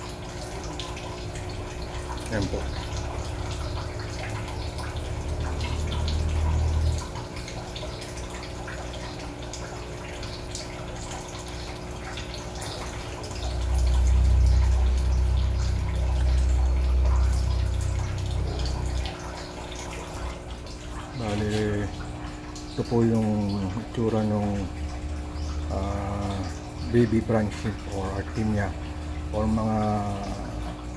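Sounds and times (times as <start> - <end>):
steady low hum: 0.0 - 30.9
water trickling and dripping: 0.0 - 30.9.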